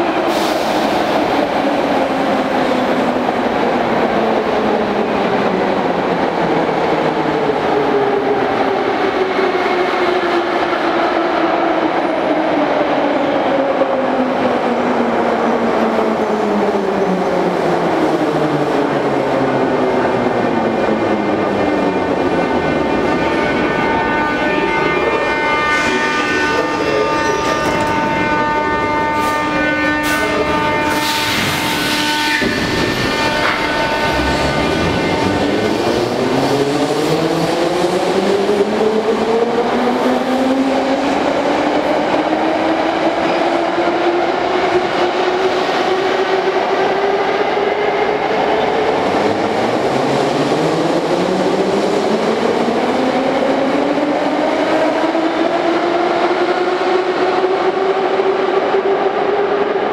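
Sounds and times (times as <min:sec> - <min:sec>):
metro train humming: 0:00.0 - 0:59.9.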